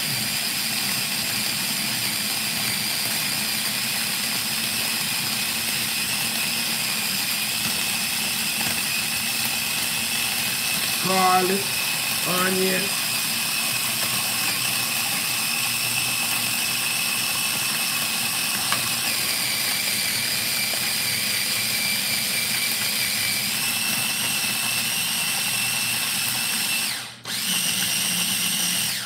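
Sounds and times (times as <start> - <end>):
food chopper motor whining: 0.0 - 29.0.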